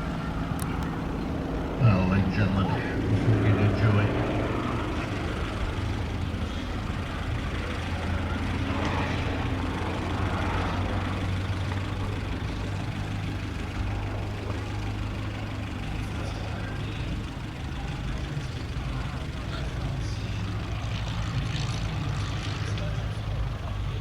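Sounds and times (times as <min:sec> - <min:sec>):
steady low engine hum: 0:00.0 - 0:24.0.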